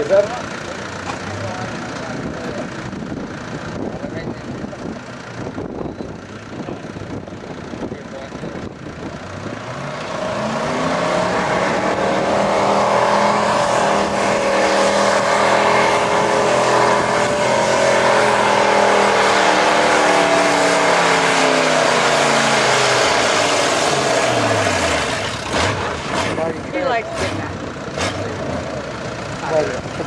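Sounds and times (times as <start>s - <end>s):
truck engine at full throttle: 0.0s - 30.0s.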